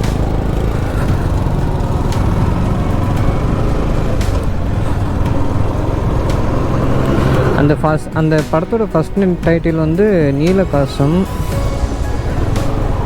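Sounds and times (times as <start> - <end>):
motorcycle engine hum: 0.0 - 13.0
road and wind noise: 0.0 - 13.0.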